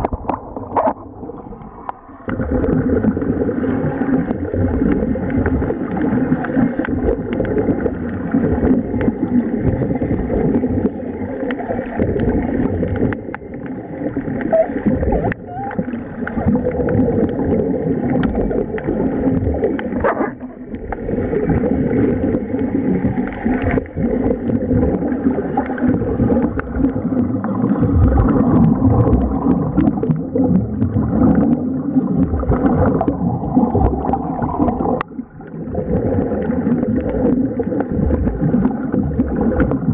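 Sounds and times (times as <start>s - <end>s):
underwater air bubbling: 0.0s - 39.9s.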